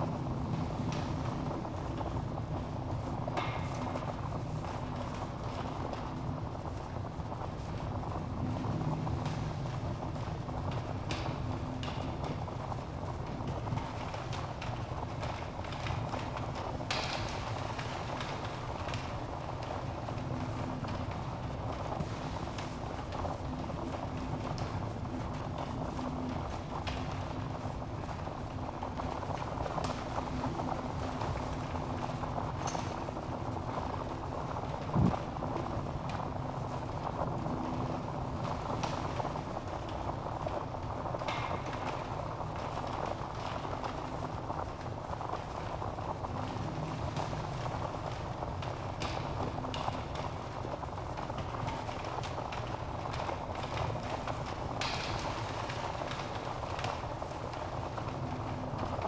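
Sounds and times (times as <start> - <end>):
fire crackling and popping: 0.1 - 59.0.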